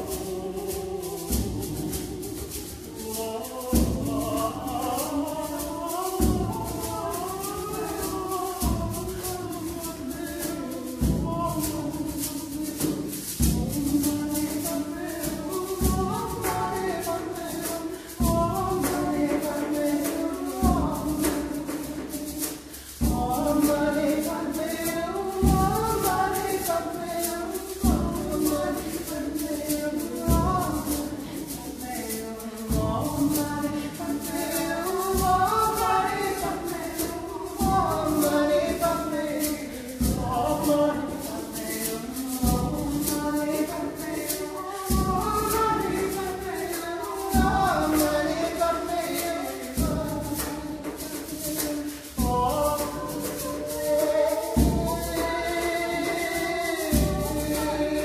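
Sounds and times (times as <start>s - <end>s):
person singing: 0.0s - 58.0s
rattling shaker: 0.0s - 58.0s.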